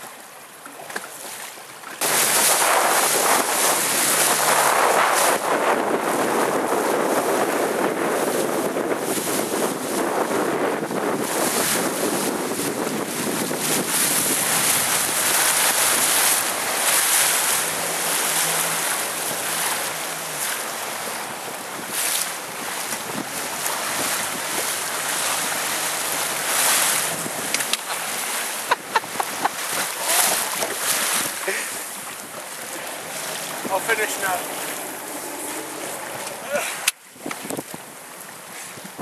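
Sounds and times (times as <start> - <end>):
waves and rushing water: 0.0 - 39.0
wind buffeting microphone: 2.0 - 39.0.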